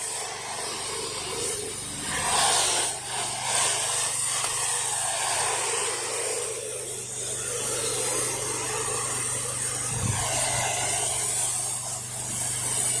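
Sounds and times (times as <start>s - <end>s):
small engine-driven pump running: 0.0s - 13.0s
spray hose hissing: 0.0s - 13.0s.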